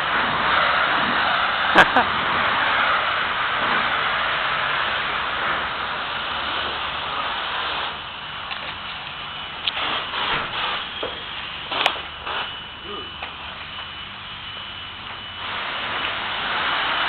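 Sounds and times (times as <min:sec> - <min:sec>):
water spraying hiss: 0:00.0 - 0:17.0.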